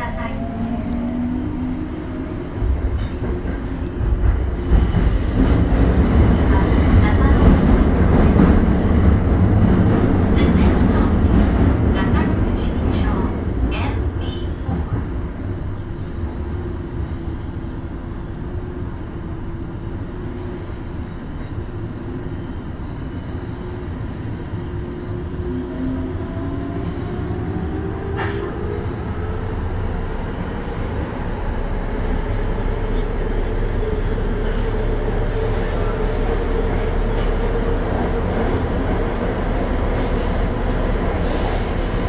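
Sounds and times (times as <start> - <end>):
wheels rumbling on rail: 0.0 - 42.0.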